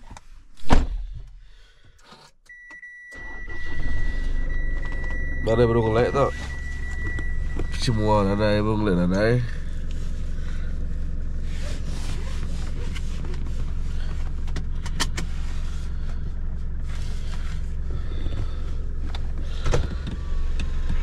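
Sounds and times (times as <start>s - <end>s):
car engine hum from cabin: 2.5s - 21.0s.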